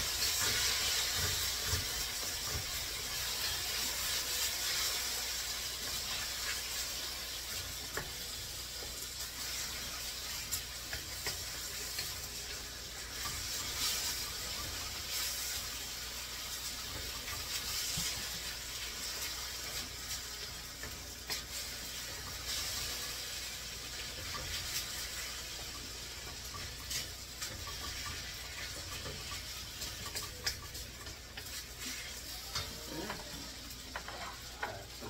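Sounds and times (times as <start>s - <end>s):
noodles sizzling in wok: 0.0s - 35.0s
spatula scraping pan: 0.0s - 35.0s.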